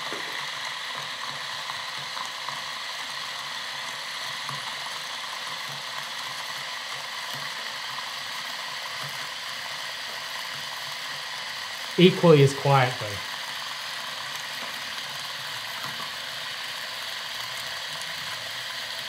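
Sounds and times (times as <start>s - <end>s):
electric coffee grinder grinding: 0.0s - 12.0s, 13.2s - 19.0s.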